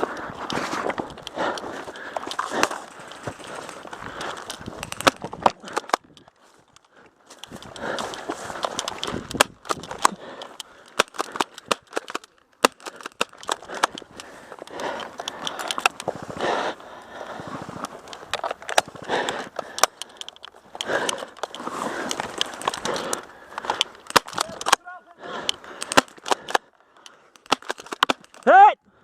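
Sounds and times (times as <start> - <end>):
rustling movement: 0.0 - 28.5
sharp snaps and cracks: 0.0 - 28.7.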